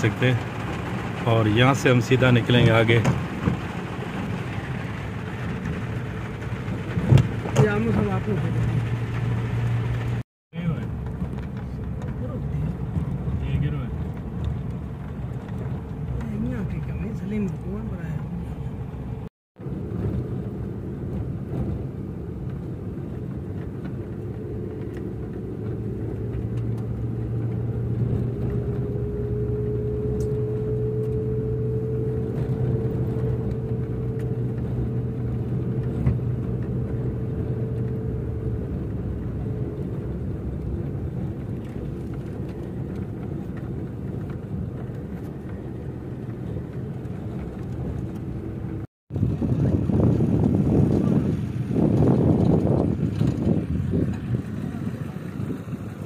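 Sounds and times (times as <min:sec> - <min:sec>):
tyre and road noise: 0:00.0 - 0:56.0
vehicle engine running: 0:00.0 - 0:56.0.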